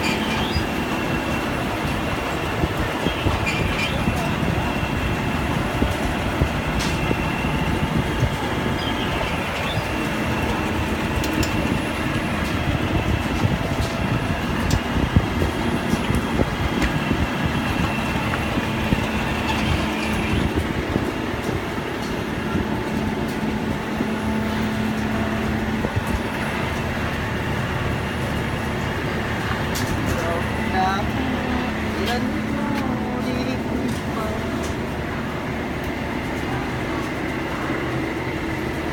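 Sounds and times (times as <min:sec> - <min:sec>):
machinery running: 0:00.0 - 0:38.9.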